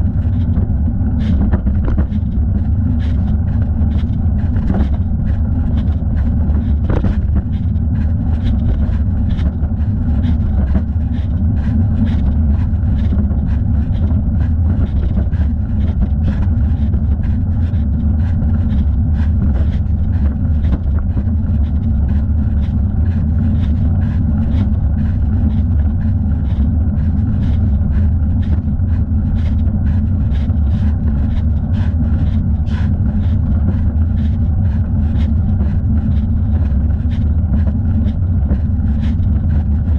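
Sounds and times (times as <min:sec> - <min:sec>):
wind rumble: 0:00.0 - 0:39.9.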